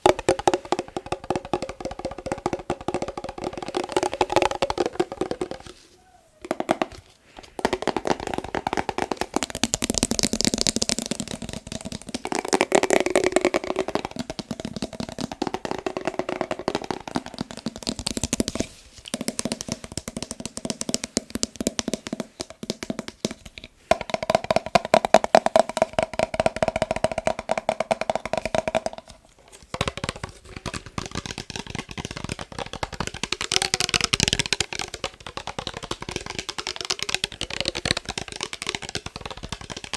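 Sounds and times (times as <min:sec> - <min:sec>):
rapid tapping on glass jar: 0:00.0 - 0:05.8, 0:06.4 - 0:18.6, 0:19.2 - 0:39.9.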